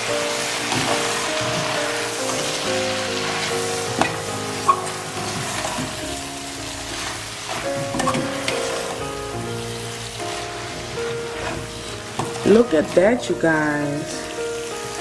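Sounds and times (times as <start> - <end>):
food sizzling in a pot: 0.0 - 15.0
soft background music: 0.0 - 15.0.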